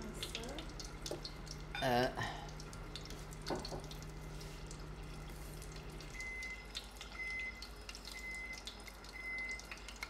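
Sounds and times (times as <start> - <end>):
deep-frying sizzle and crackle: 0.0 - 10.0.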